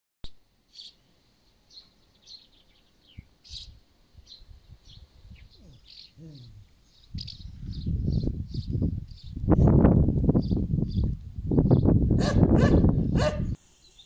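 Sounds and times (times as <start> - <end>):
small birds chirping: 0.6 - 9.6, 10.2 - 14.0.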